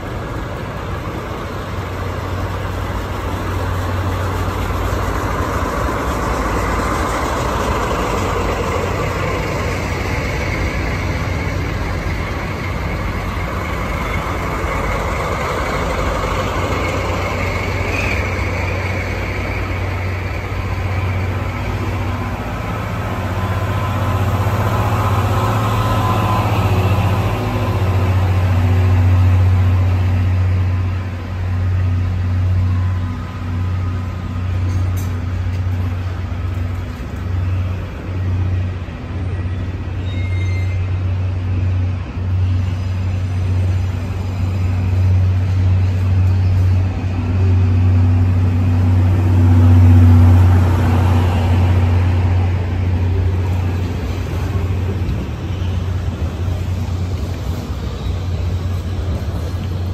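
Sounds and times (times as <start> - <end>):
train coaches rumbling past: 0.0 - 59.9.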